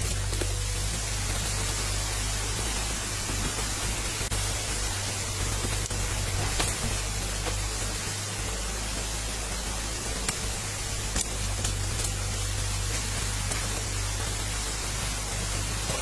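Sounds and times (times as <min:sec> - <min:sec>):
rain: 0:00.0 - 0:16.0
rushing water: 0:00.0 - 0:16.0.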